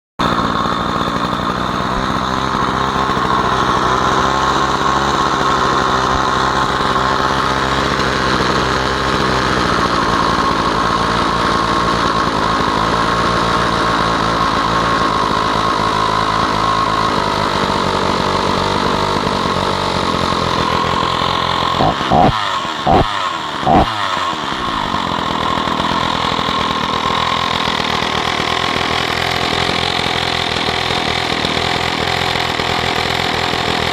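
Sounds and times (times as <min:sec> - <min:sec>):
chainsaw engine running: 0:00.2 - 0:33.9
chainsaw throttle blips: 0:00.2 - 0:33.9.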